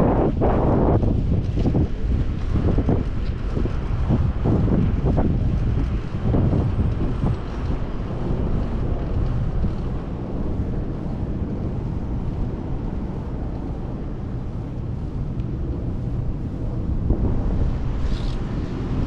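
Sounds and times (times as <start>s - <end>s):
road noise: 0.0s - 19.0s
wind rumble on microphone: 0.0s - 19.0s.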